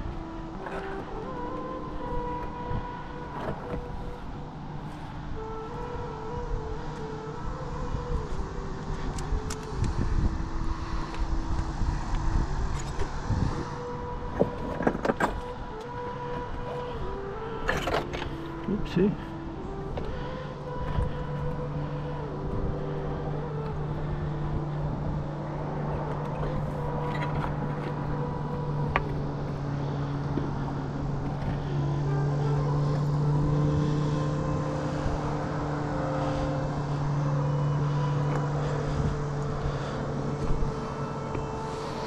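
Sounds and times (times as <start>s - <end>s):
engine droning: 0.0s - 42.0s.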